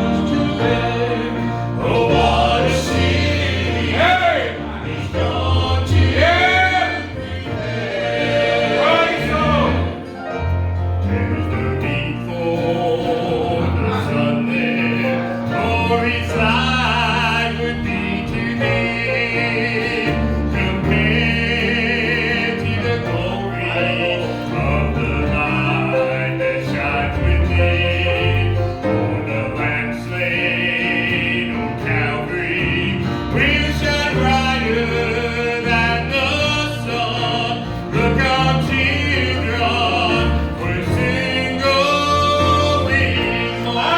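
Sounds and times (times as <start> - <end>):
gospel group singing: 0.0 - 43.9
instrumental accompaniment: 0.0 - 43.9
steady bass line: 0.0 - 43.9.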